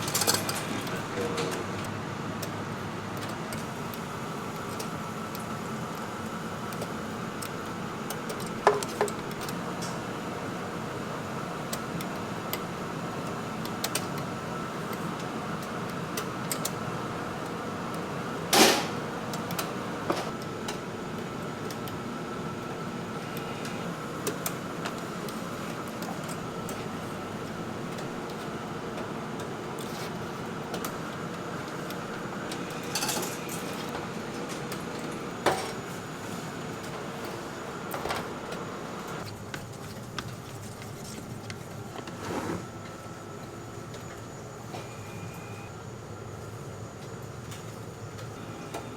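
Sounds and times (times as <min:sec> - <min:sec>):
kitchen machinery humming: 0:00.0 - 0:48.9.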